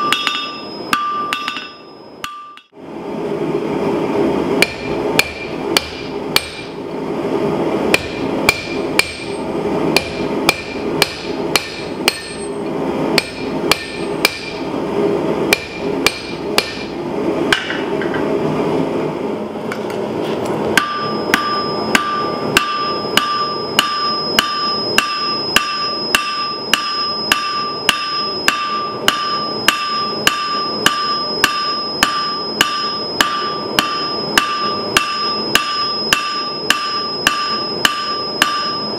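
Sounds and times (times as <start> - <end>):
hammer striking steel on anvil: 0.0 - 2.7, 4.6 - 6.8, 7.9 - 14.7, 15.5 - 18.2, 20.8 - 38.9.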